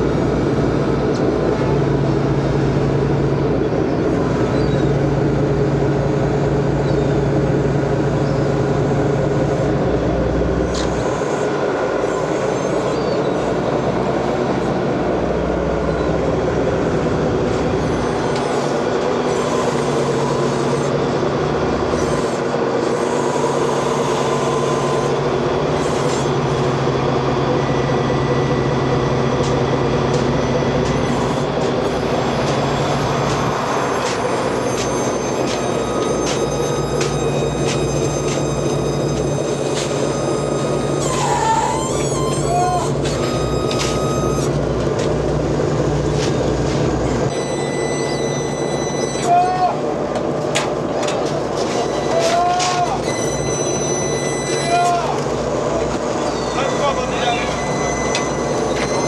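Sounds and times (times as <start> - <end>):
diesel engines droning: 0.0 - 59.0.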